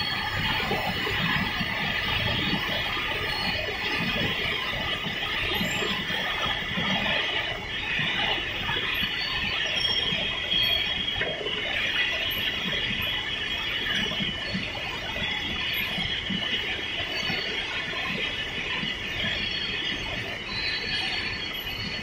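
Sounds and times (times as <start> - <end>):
machinery squealing whine: 0.0 - 22.0.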